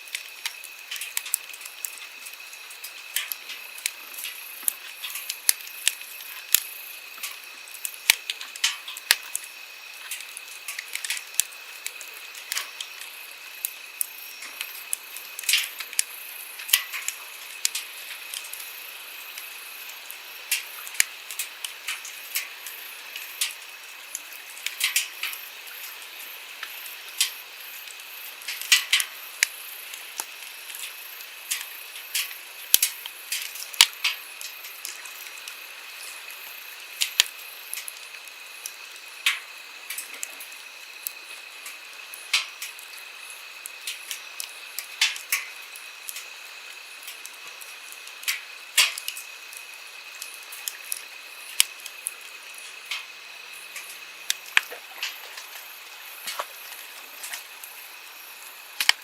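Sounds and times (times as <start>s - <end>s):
wood campfire crackling: 0.0s - 59.0s.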